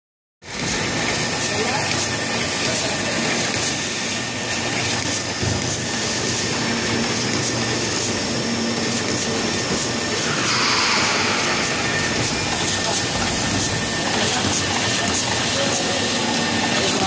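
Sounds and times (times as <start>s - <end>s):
conveyor machine noise: 0.5s - 17.0s.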